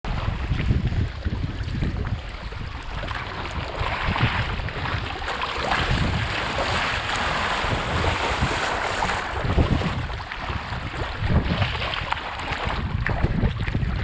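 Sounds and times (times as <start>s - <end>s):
wind buffeting microphone: 0.0s - 14.0s
waves splashing against kayak: 0.1s - 14.0s.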